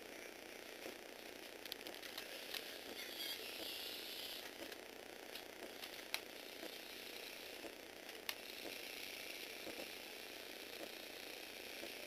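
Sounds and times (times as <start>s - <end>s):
small gearbox motor whirring: 0.1s - 12.0s.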